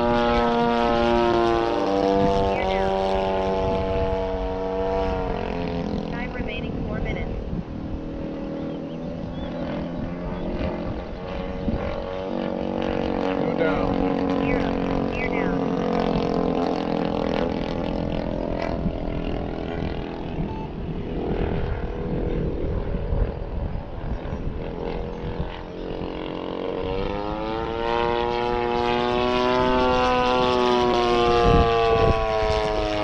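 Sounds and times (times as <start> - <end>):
model plane engine droning: 0.0 - 33.0.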